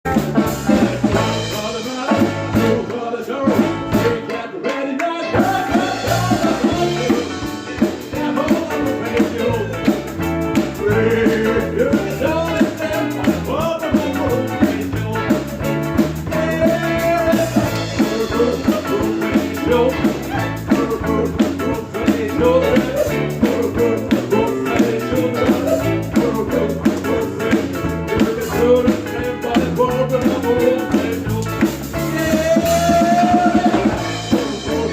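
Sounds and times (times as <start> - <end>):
drum kit beat: 0.0 - 4.5, 5.3 - 34.9
live rock band playing: 0.0 - 4.5, 5.2 - 34.9
wavering melodic lead line: 5.4 - 34.9.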